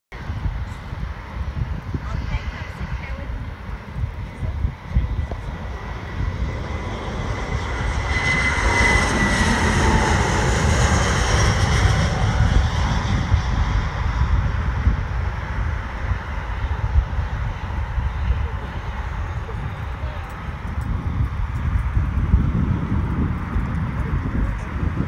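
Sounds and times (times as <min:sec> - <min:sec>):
jet flying low overhead: 0:00.1 - 0:25.0.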